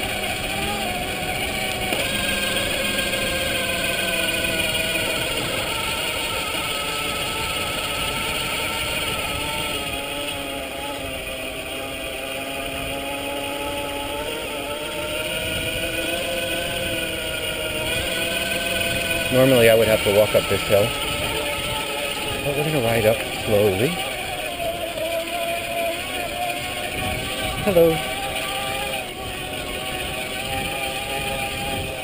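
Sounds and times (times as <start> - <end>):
electric bike motor whining: 0.0 - 32.0
wind on microphone: 0.0 - 32.0.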